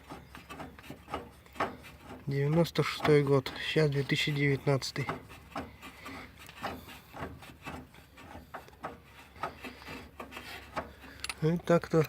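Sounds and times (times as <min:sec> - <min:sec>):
hand tools clicking and scraping: 0:00.0 - 0:12.0.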